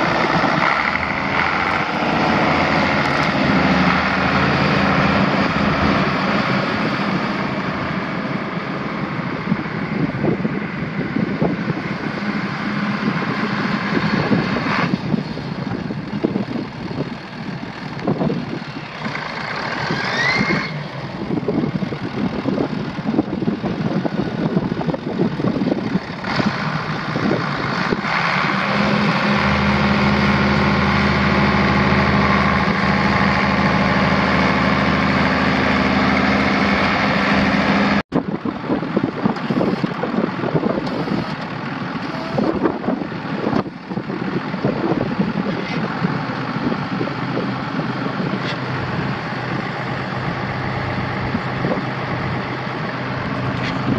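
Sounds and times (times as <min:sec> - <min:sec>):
diesel engine running: 0:00.0 - 0:53.9
wind buffeting microphone: 0:00.0 - 0:53.9.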